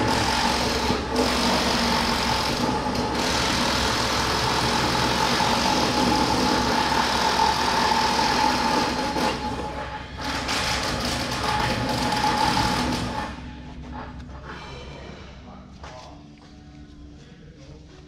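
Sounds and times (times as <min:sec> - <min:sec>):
machine whining: 0:00.0 - 0:15.0.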